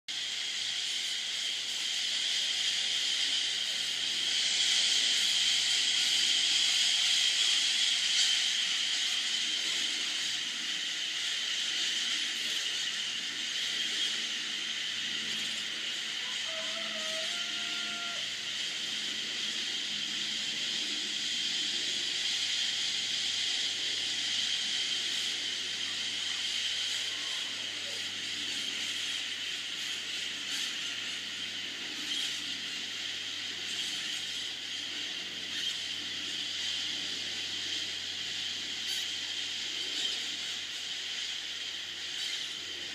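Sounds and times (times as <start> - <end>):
flock of parrots calling: 0.2 - 42.9.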